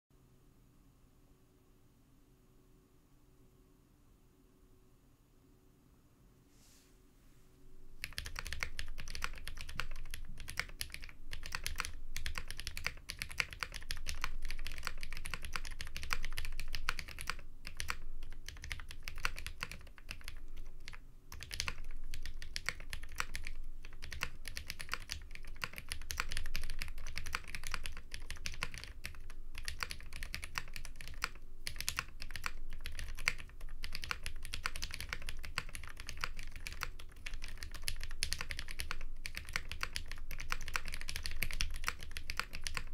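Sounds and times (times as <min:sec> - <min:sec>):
mechanical keyboard typing: 0:08.0 - 0:42.9.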